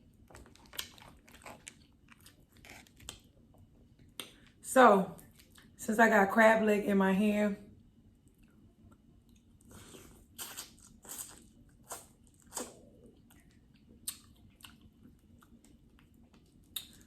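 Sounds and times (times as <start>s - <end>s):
chewing: 0.2s - 4.6s, 5.2s - 5.8s, 8.2s - 17.0s.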